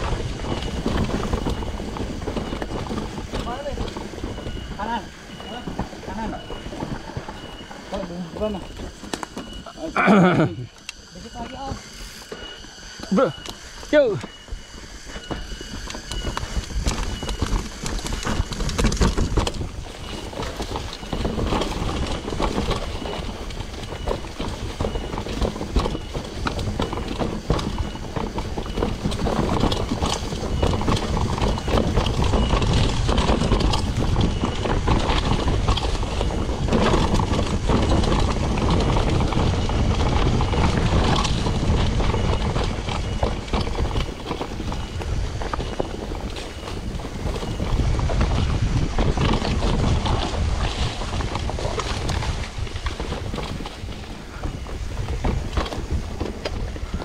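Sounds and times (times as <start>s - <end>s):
wind buffeting microphone: 0.0s - 10.0s, 13.7s - 57.0s
bike tyres clattering on rough trail: 0.0s - 57.0s.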